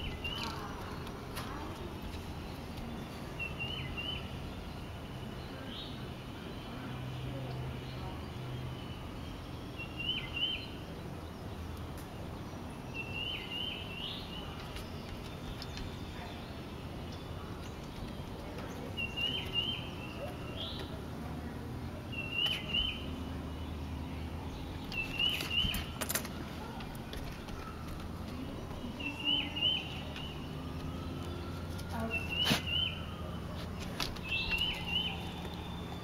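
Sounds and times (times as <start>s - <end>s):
outdoor background noise: 0.0s - 36.0s
songbird singing: 0.0s - 36.0s.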